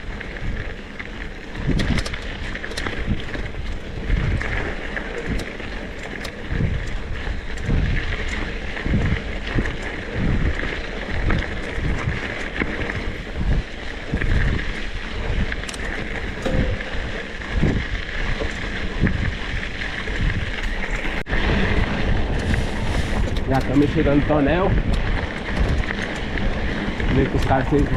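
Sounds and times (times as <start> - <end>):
small motorbike engine running: 0.0 - 27.9
wind buffeting microphone: 0.0 - 27.9.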